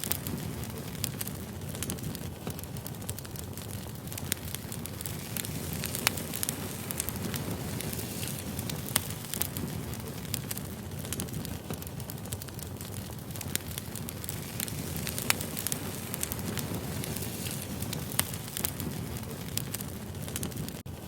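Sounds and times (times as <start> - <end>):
logs crackling and popping: 0.0 - 21.0
low fire rumble: 0.0 - 21.0.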